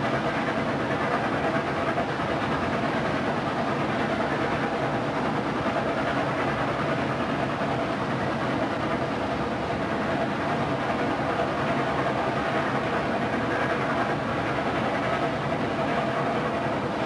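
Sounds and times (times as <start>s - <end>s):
train running: 0.0s - 17.0s.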